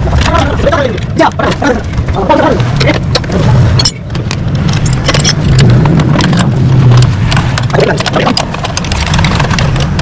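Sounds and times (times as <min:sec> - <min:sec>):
sharp clicks and knocks: 0:00.0 - 0:10.0.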